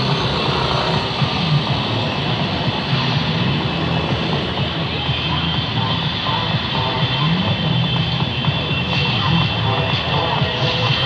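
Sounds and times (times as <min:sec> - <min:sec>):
many motorcycle engines droning: 0:00.0 - 0:11.0.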